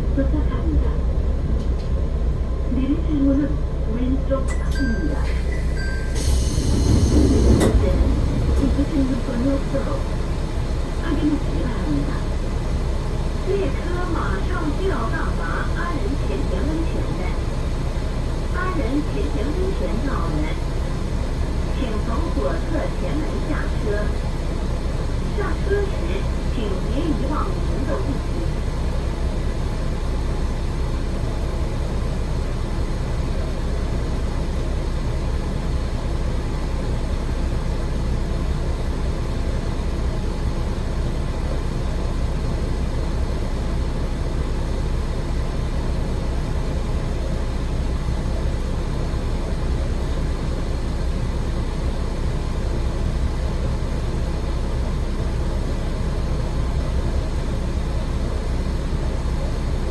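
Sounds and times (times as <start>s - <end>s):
diesel railcar engine hum: 0.0s - 59.9s
wheels rumbling on rails: 0.0s - 59.9s.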